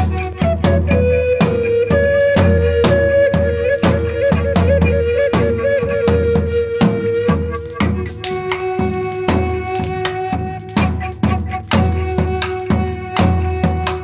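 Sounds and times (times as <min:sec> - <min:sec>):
end-blown flute melody: 0:00.0 - 0:14.0
steady drum beat: 0:00.0 - 0:14.0.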